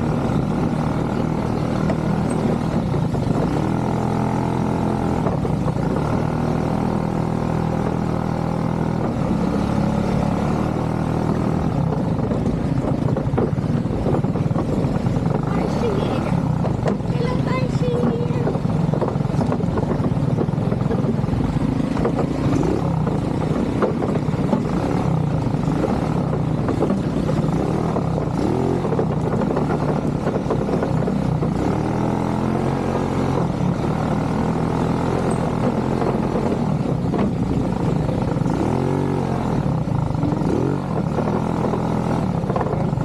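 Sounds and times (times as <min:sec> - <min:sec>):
atv engine revving: 0:00.0 - 0:43.0.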